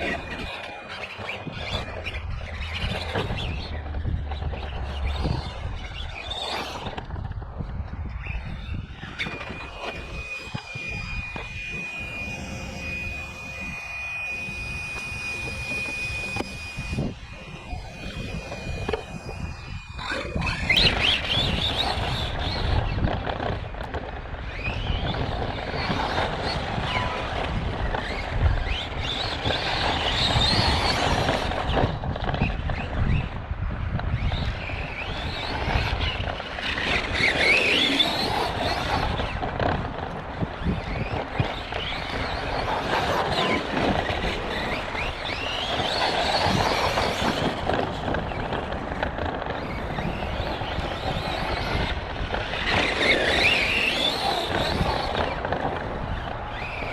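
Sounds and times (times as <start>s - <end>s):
rc truck motor whining: 0.0s - 56.9s.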